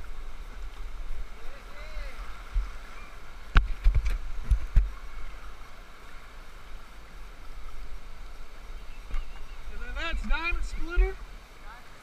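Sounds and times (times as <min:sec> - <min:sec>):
river rapid rushing: 0:00.0 - 0:12.0.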